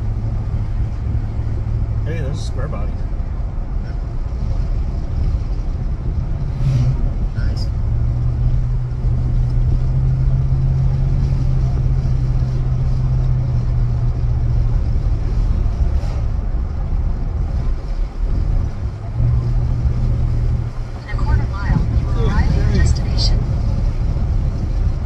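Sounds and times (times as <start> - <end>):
engine and road drone: 0.0 - 25.0.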